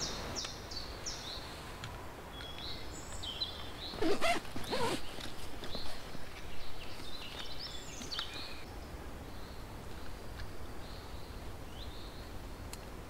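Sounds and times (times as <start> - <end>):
low wind rumble: 0.0 - 13.0
songbirds chirping: 0.0 - 13.0.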